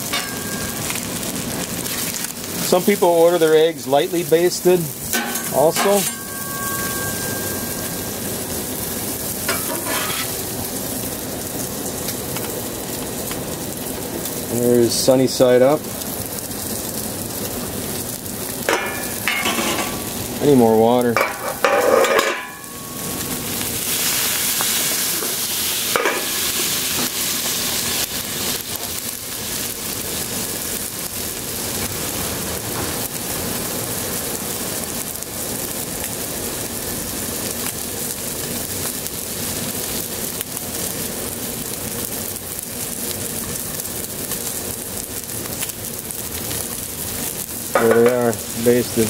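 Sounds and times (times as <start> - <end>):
eggs sizzling on a griddle: 0.0 - 49.0.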